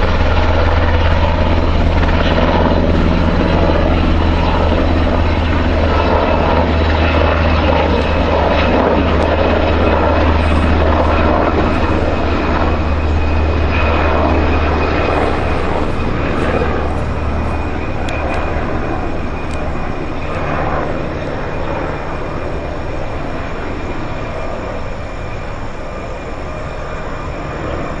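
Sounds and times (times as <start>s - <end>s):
helicopter flying past: 0.0s - 28.0s.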